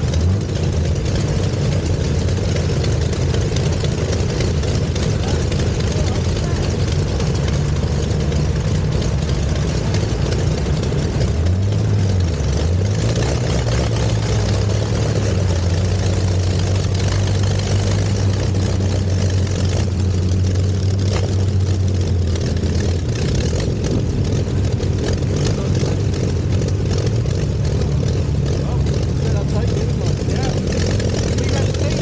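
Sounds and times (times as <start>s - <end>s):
aero engine idling: 0.0s - 32.0s.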